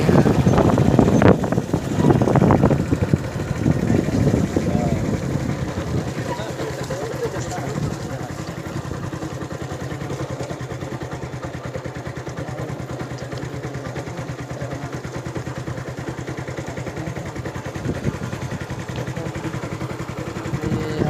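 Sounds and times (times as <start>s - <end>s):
heavy engine chugging: 0.0s - 21.0s.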